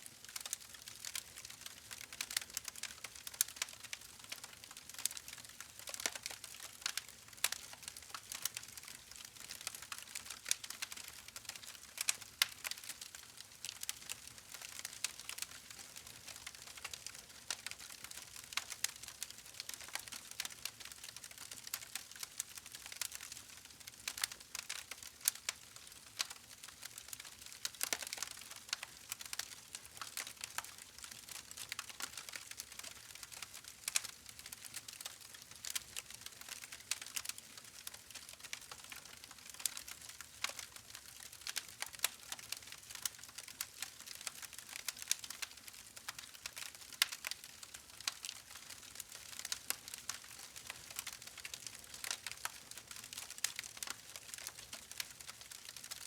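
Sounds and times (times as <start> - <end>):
campfire crackling and popping: 0.2 - 56.0.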